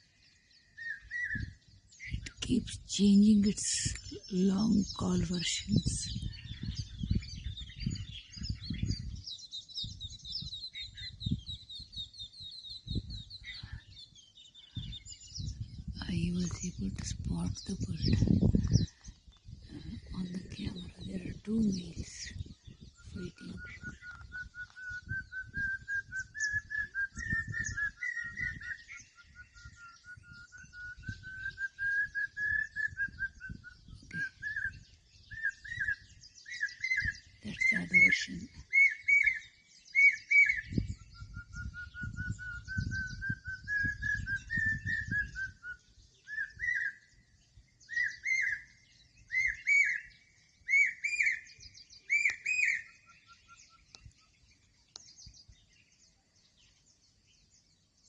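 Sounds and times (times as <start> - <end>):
small birds chirping: 0.0 - 58.0
songbird calling: 0.0 - 58.0.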